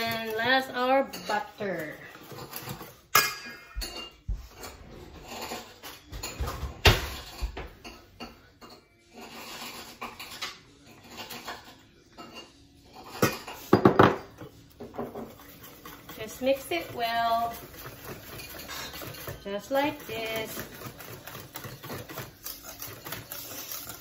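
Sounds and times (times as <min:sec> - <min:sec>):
utensils clinking against bowls: 0:00.0 - 0:24.0.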